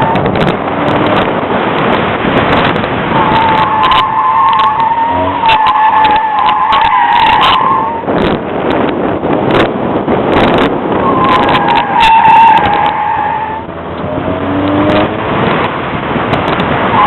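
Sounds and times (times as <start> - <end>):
tires squealing: 0.0 - 8.9, 10.4 - 17.0
rushing noise: 0.0 - 17.0.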